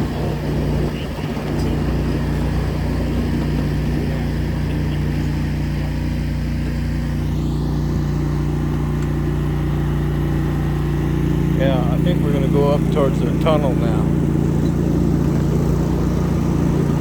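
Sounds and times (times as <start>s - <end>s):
ride-on train engine droning: 0.0s - 17.0s.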